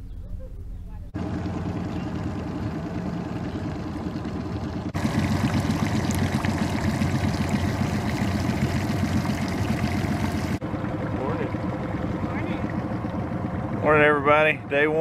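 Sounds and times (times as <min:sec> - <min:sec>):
boat motor running: 0:00.2 - 0:15.0
water splashing around hull: 0:01.2 - 0:15.0.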